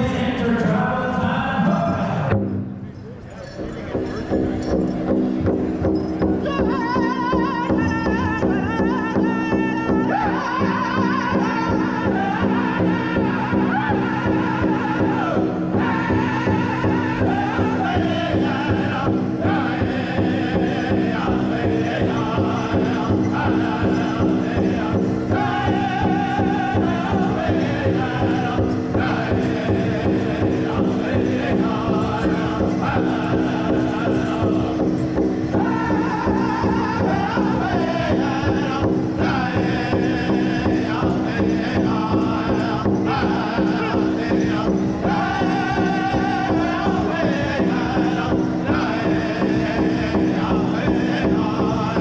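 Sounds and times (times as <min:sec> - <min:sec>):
large drum beats: 0:00.0 - 0:52.0
men chanting together: 0:06.4 - 0:52.0.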